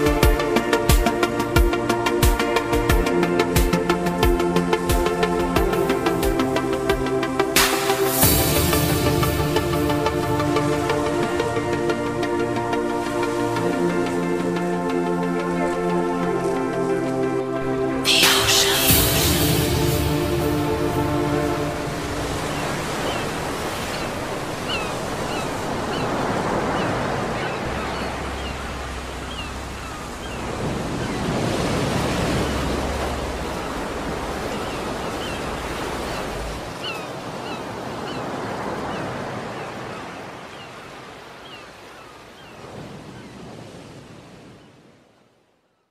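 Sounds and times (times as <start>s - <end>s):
sea waves washing in: 0.0s - 45.2s.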